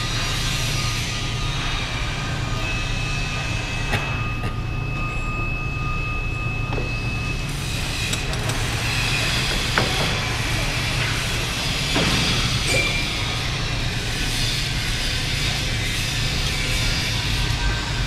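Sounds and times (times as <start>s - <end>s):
metal lathe humming: 0.0s - 18.0s
thin high whine: 0.0s - 18.0s.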